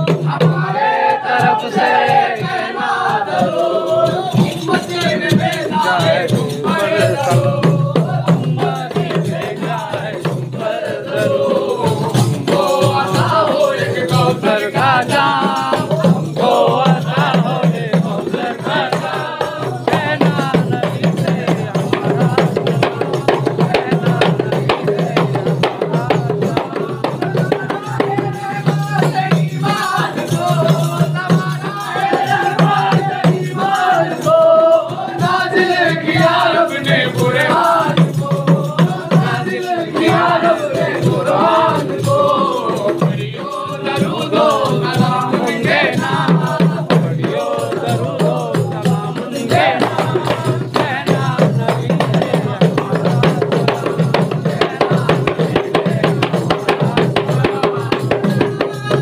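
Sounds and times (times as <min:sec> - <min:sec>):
frame drums beaten by hand: 0:00.0 - 0:59.0
men chanting together: 0:00.0 - 0:59.0.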